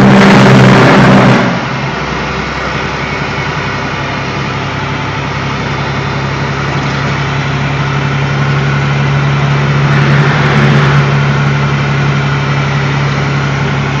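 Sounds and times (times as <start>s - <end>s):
diesel engine running loud: 0.0s - 14.0s.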